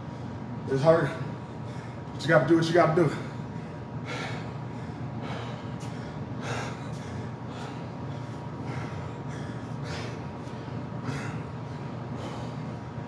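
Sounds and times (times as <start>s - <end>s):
man breathing heavily: 0.0s - 2.2s, 3.0s - 13.0s
steady low hum: 0.0s - 13.0s.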